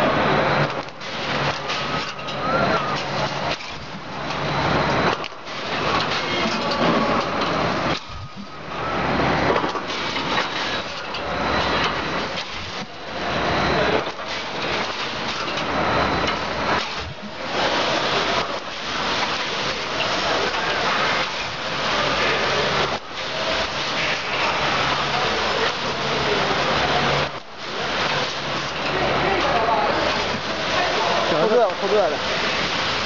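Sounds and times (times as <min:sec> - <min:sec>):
welding machine crackling and hissing: 0:00.0 - 0:33.0.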